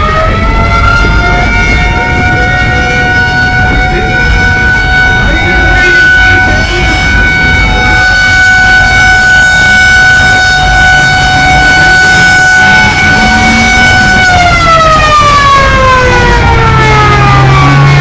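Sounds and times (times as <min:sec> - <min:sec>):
low rumble: 0:00.0 - 0:18.0
siren winding down: 0:00.0 - 0:18.0.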